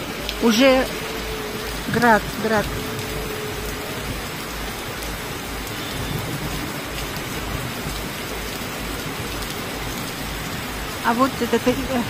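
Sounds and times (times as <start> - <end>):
hail and rain falling hard: 0.0 - 12.0.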